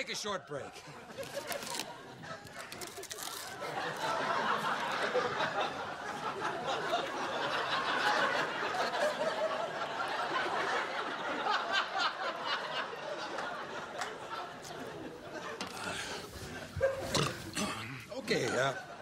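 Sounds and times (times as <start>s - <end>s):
crowd laughing and chattering: 0.5s - 19.0s.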